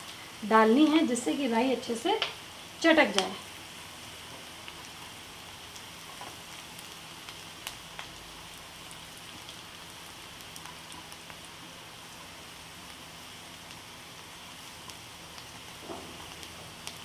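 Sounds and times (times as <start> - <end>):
oil sizzling: 0.0 - 17.0
seeds popping in hot oil: 2.0 - 17.0.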